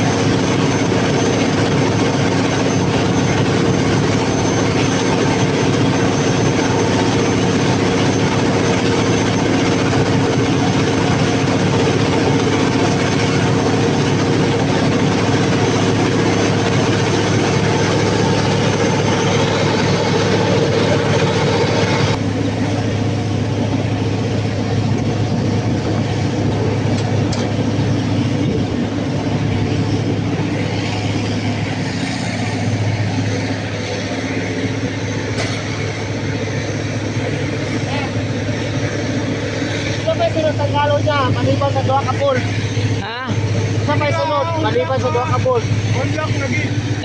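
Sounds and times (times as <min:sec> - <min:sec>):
large engine running: 0:00.0 - 0:47.0.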